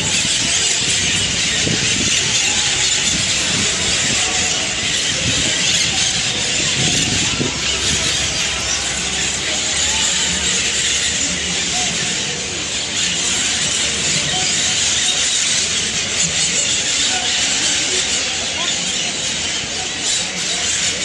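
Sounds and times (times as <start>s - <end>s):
flock of parakeets calling: 0.0s - 21.0s.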